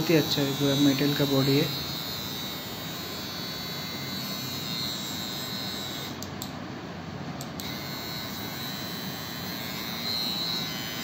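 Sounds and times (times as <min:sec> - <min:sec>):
hair clipper humming: 0:00.0 - 0:06.5, 0:07.5 - 0:11.0.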